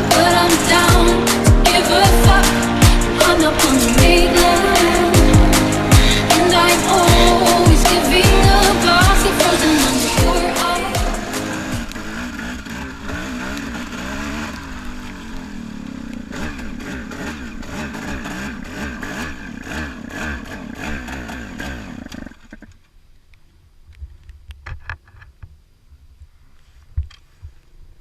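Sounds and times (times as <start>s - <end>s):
dirt bike engine revving: 0.0s - 22.6s.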